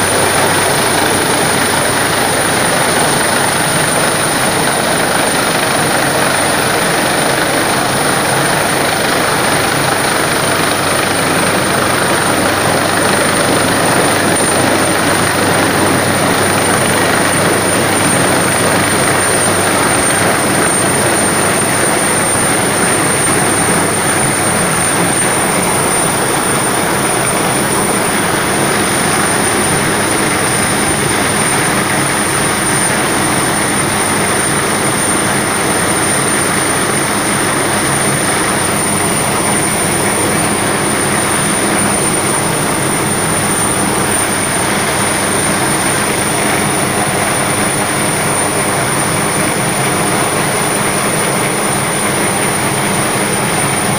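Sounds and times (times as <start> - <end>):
helicopter rotor and turbine: 0.0 - 53.9
high steady whine: 0.0 - 53.9.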